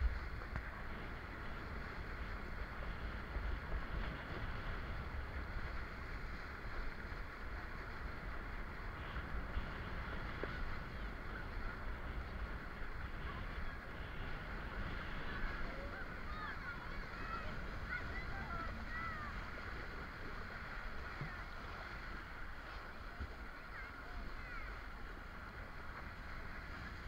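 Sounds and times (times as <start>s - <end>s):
water and wind rushing: 0.0s - 27.0s.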